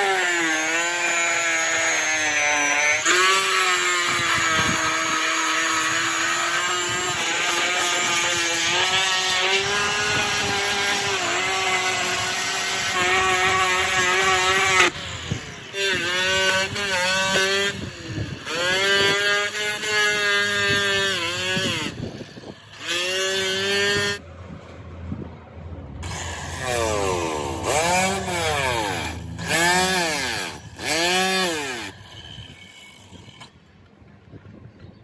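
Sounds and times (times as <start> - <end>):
motor whining and revving: 0.0 - 24.3, 25.1 - 33.6.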